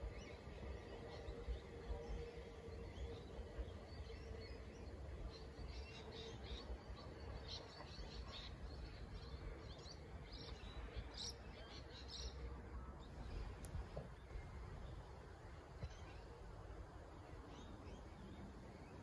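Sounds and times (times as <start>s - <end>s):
faint low rumble: 0.0s - 19.0s.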